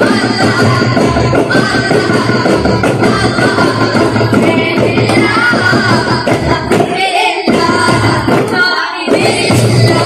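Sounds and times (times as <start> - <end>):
boys singing in unison: 0.0 - 10.0
frame drums beating: 0.0 - 10.0.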